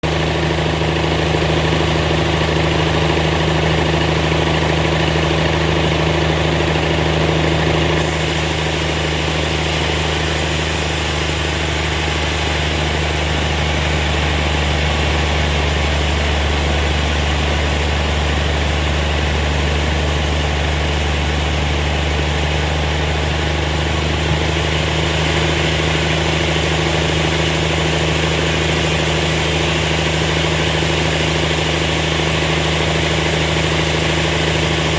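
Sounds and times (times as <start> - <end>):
sawmill machinery droning: 0.0 - 34.9.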